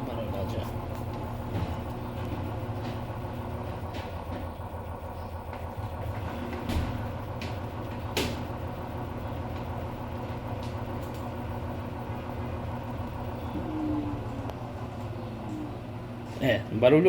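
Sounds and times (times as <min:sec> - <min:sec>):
washing machine spin hum: 0:00.0 - 0:17.0.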